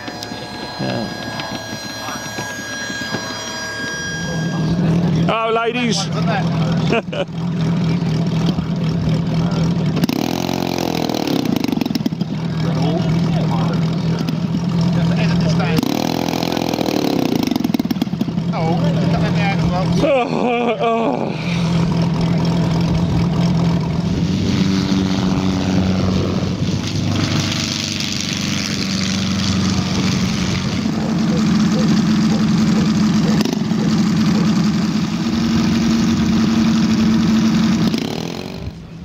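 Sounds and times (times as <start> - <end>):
model aircraft engines running: 0.0 - 39.0.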